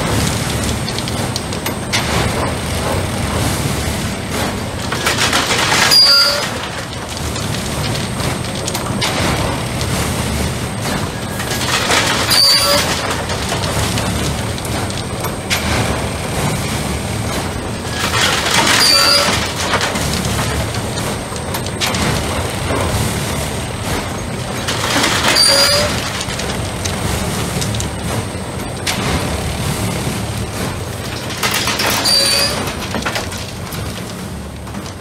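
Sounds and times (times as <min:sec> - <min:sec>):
diesel and hydraulic drone: 0:00.0 - 0:35.0.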